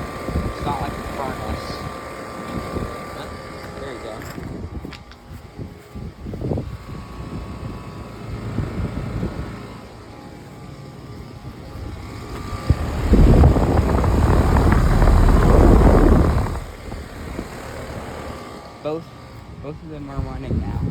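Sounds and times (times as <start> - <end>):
air conditioner fan hum: 0.0 - 20.9.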